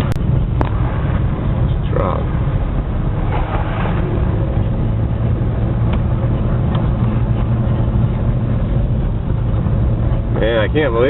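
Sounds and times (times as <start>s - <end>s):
car engine and tyres droning: 0.0s - 11.0s.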